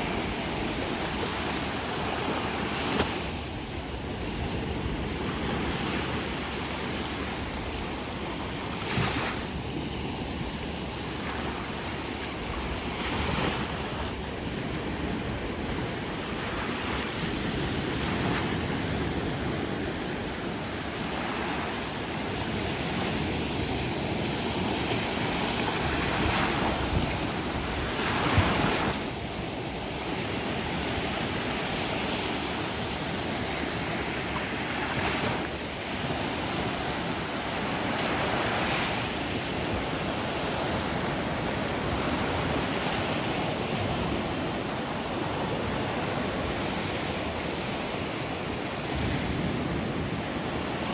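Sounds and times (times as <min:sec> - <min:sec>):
sea waves breaking: 0:00.0 - 0:50.9
wind on microphone: 0:00.0 - 0:50.9.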